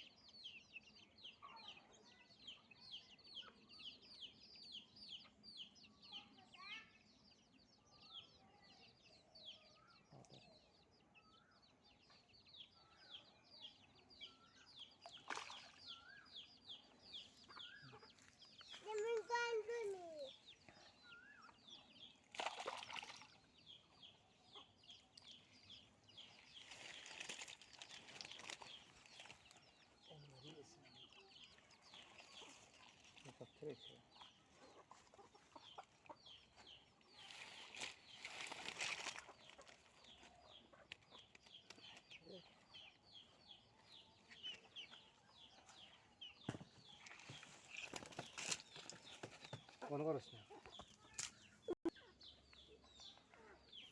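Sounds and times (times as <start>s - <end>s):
faint bird chirping: 0.0s - 53.9s.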